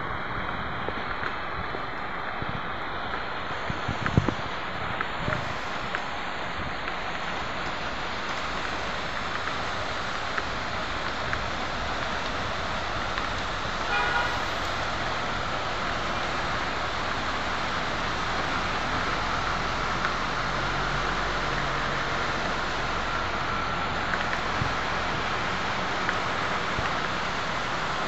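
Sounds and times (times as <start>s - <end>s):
rainwater rushing hiss: 0.0s - 28.0s.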